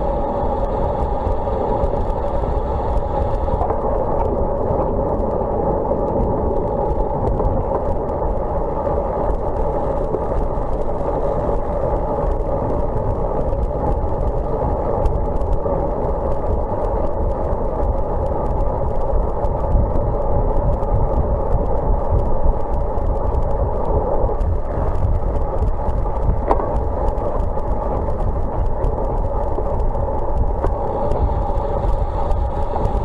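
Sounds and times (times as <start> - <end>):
bicycle tyres on wet road: 0.0 - 33.0
wind rushing on microphone: 0.0 - 33.0.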